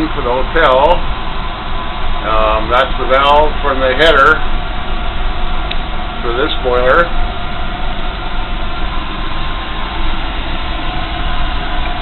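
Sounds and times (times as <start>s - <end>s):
oil burner running: 0.0s - 12.0s.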